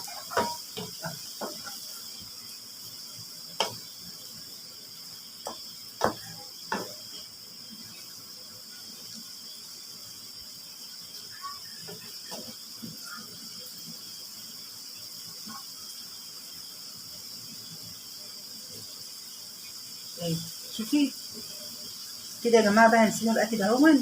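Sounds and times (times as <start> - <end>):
liver sizzling in a hot pan: 0.0 - 24.0.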